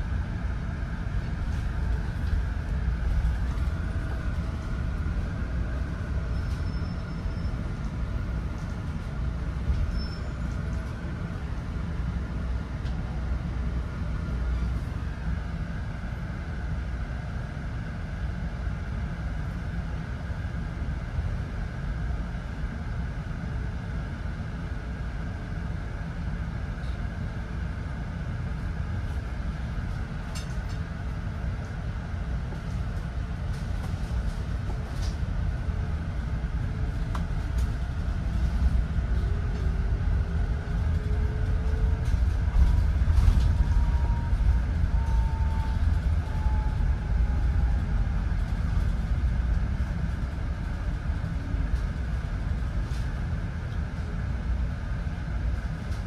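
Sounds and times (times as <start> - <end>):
bus road rumble: 0.0 - 56.0.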